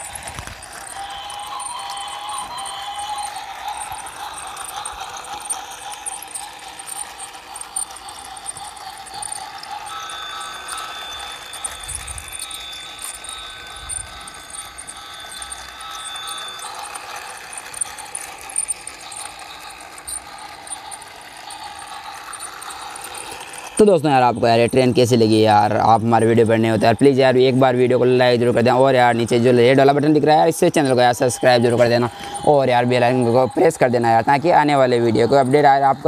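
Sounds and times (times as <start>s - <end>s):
toy train motor whirring: 0.0s - 36.0s
wheels clicking and rattling: 0.0s - 36.0s.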